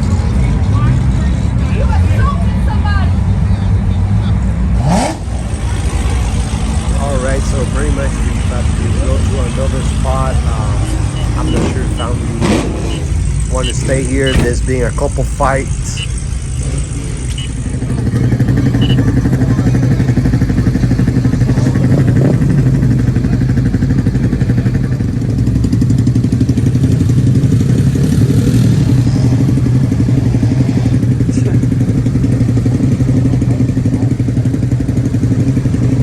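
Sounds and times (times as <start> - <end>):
vehicle engine droning: 0.0 - 36.0.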